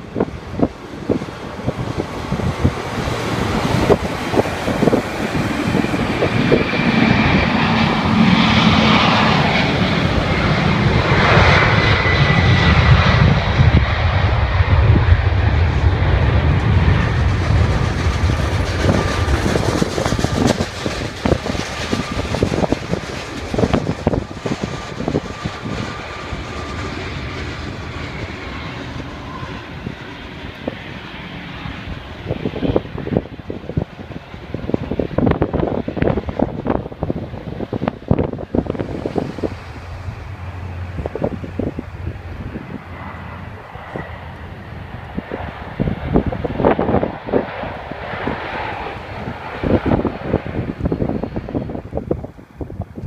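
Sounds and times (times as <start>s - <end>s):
jet airliner passing by: 0.0s - 53.0s.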